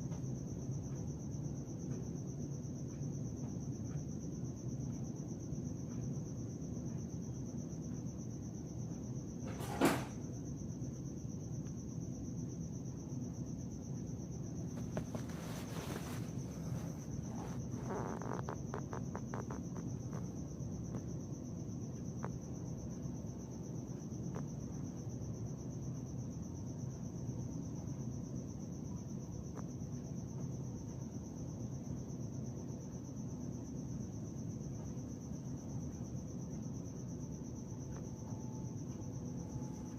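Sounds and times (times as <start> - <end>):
cricket trilling: 0.0 - 39.9
low background hum: 0.0 - 39.9.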